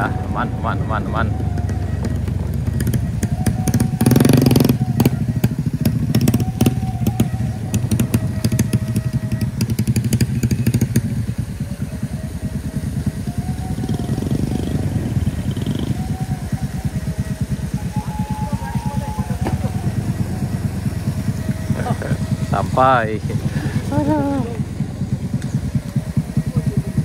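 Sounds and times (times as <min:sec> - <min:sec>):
scooter engine running: 0:00.0 - 0:27.0.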